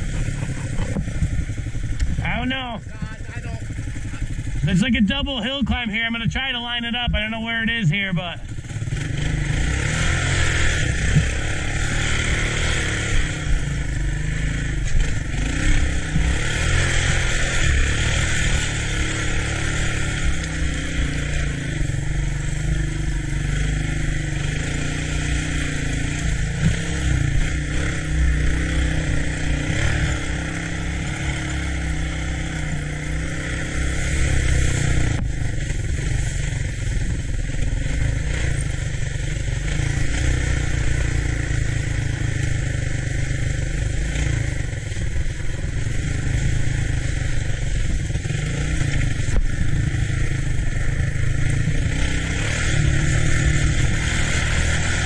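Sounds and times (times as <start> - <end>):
three-wheeler engine under load: 0.0 - 55.0.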